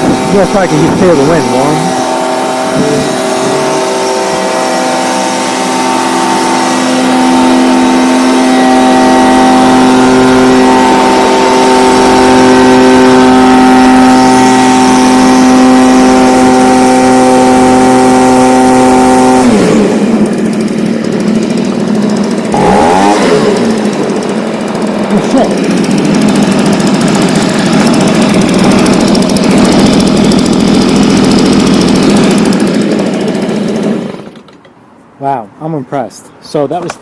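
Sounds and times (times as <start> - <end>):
leaf blower engine: 0.0 - 34.7.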